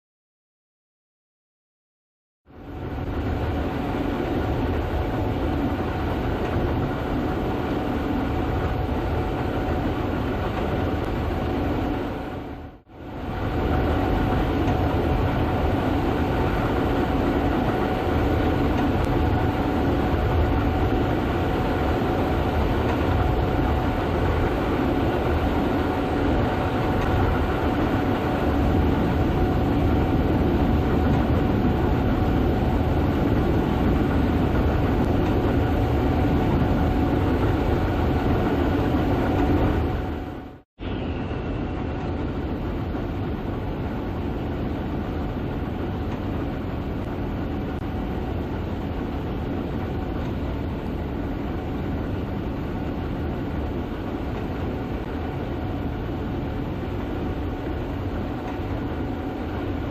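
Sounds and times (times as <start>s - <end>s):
steady mechanical whine: 2.5s - 59.9s
combine harvester rumbling: 2.6s - 59.9s.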